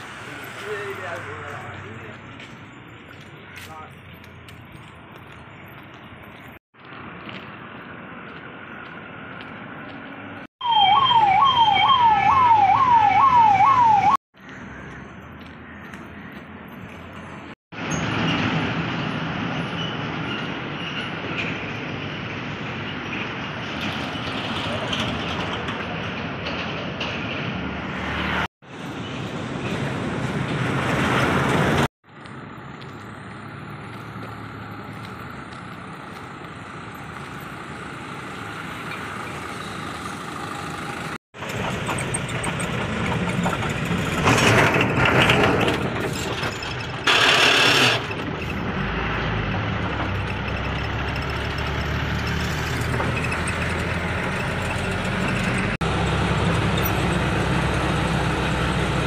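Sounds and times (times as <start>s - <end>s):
road traffic and engine hum: 0.0s - 59.0s.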